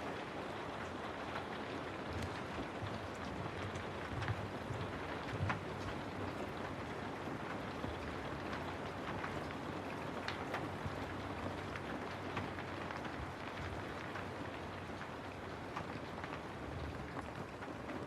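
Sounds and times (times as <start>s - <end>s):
raindrops ticking: 0.0s - 18.0s
steady rain falling: 0.0s - 18.0s.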